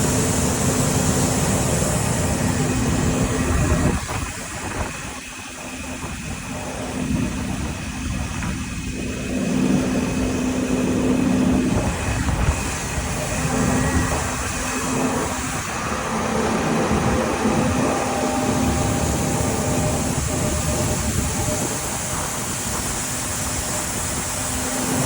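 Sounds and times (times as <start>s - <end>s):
broad mechanical rumble: 0.0s - 25.0s
diesel machinery engine hum: 0.0s - 25.0s.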